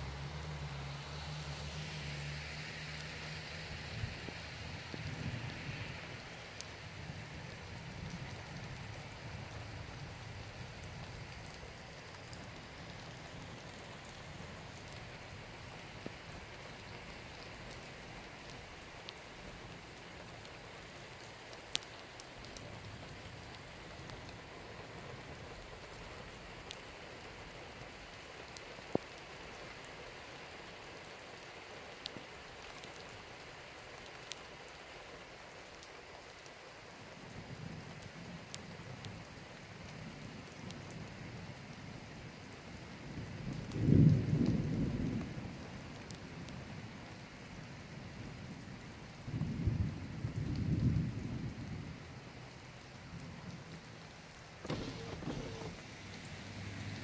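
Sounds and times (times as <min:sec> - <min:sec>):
raindrops ticking close by: 0:00.0 - 0:57.0
steady rain: 0:00.0 - 0:57.0.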